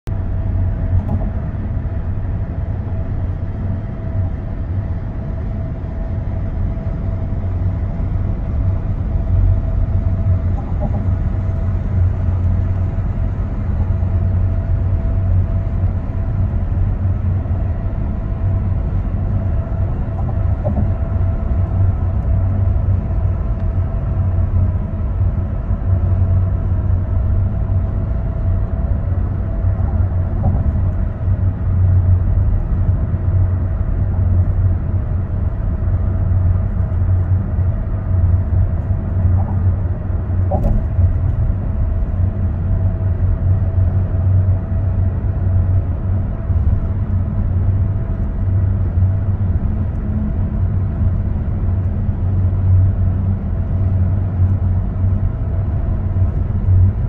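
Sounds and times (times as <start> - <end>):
road and tyre rumble: 0.0 - 57.0
faint steady whine: 0.1 - 57.0.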